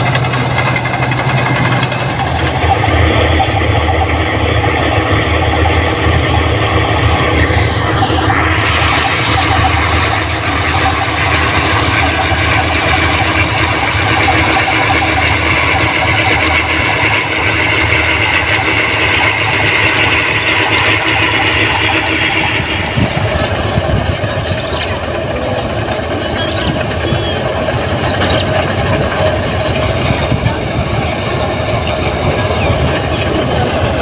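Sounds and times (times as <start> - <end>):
combine harvester drone: 0.0 - 34.0
high machine whine: 0.0 - 34.0.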